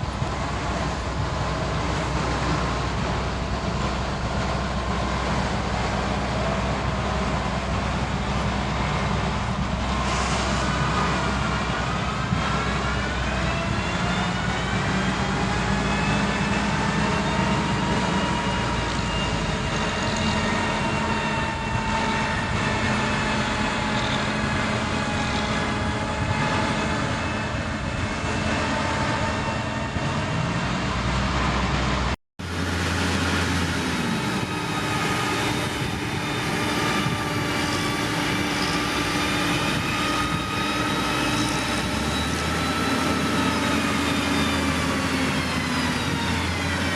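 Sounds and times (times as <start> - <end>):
construction machinery diesel engines: 0.0 - 46.9.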